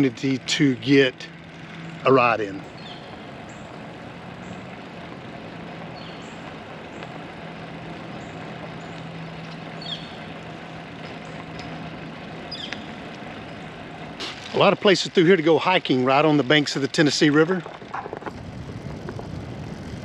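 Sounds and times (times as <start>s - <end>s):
bike rolling on trail: 0.0s - 20.0s
constant low hum: 0.0s - 20.0s.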